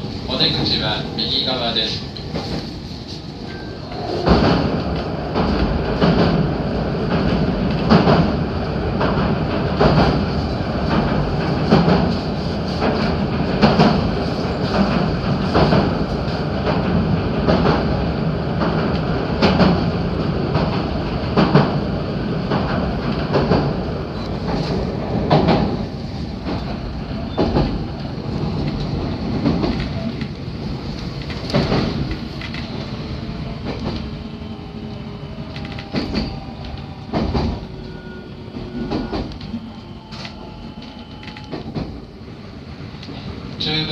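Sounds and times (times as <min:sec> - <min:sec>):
train interior rumble: 0:00.0 - 0:43.9.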